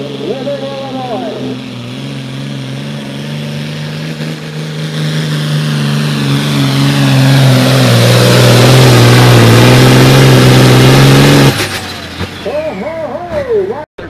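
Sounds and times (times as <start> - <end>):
tractor diesel engine under load: 0.0 - 13.8.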